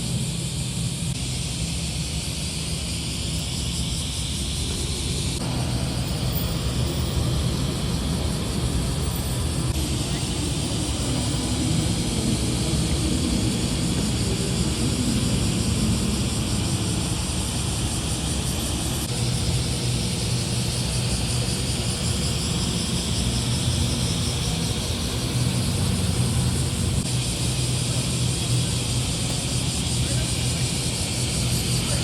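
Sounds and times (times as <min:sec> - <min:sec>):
car engines rumbling: 0:00.0 - 0:32.0.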